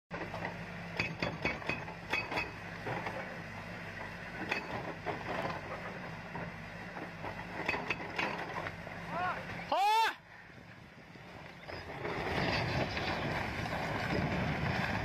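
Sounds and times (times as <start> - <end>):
excavator diesel engine running: 0.1 - 9.8, 10.4 - 15.0.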